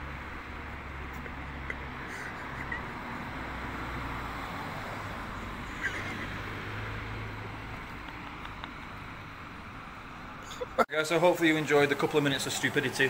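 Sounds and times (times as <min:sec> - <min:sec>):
traffic hiss: 0:00.0 - 0:13.0
wind: 0:00.0 - 0:13.0.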